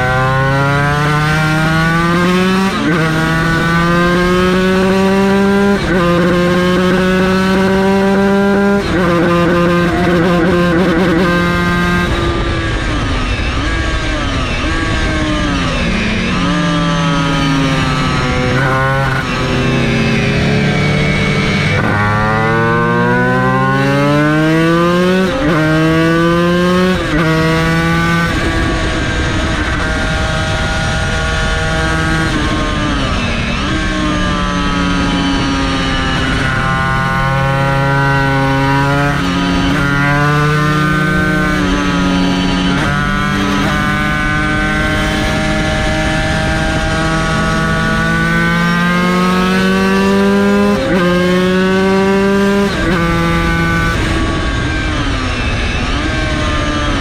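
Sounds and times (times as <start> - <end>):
race engine revving through gears: 0.0 - 12.8, 13.5 - 57.0.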